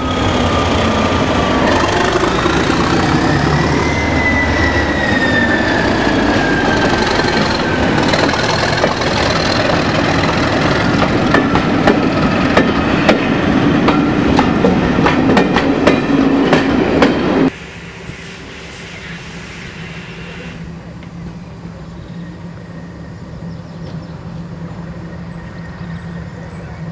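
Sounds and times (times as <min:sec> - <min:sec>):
train rumble with high whine: 0:00.0 - 0:26.9.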